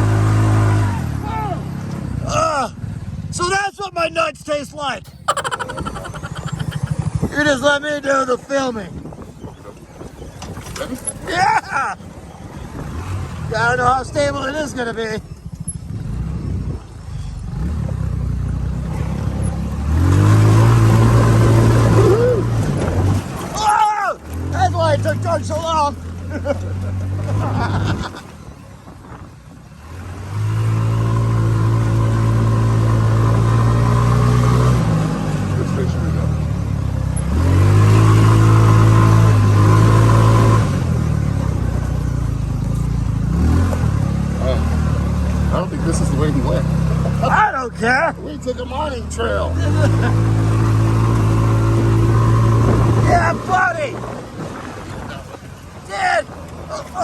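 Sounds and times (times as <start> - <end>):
go-kart engine revving: 0.0 - 3.3, 5.0 - 8.9, 10.2 - 57.0.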